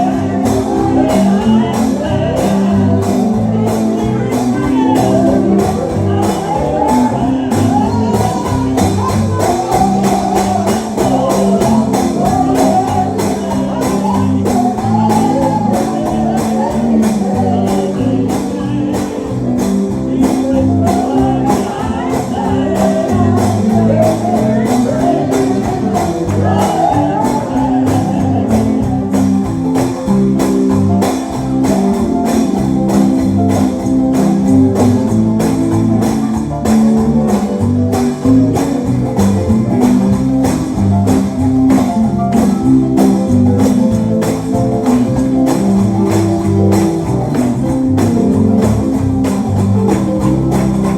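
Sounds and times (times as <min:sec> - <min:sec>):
strummed guitar: 0:00.0 - 0:50.9
voices singing: 0:00.0 - 0:50.9.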